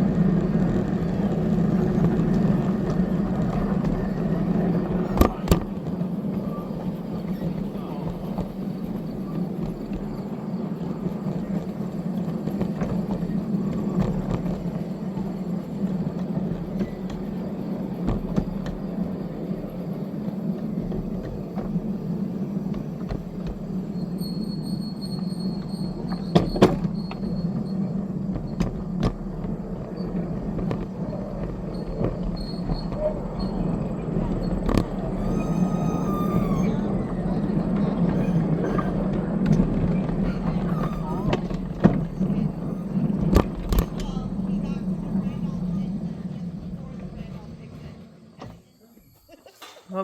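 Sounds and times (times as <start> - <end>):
locomotive engine running: 0.0 - 48.4.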